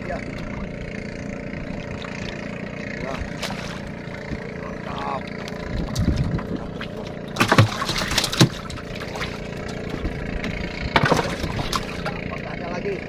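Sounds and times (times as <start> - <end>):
water sloshing against boat: 0.0 - 13.0.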